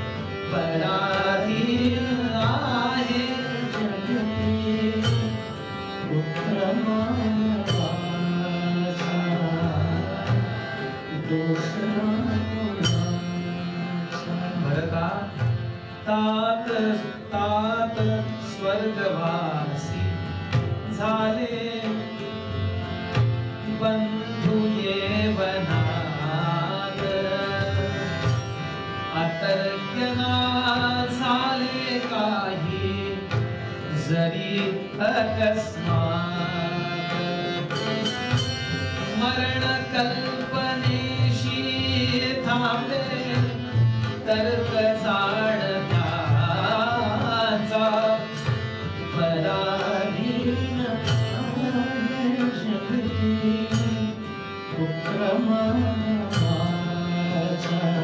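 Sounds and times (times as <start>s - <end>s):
harmonium: 0.0s - 58.0s
man singing devotional song: 0.0s - 58.0s
tabla: 0.0s - 58.0s.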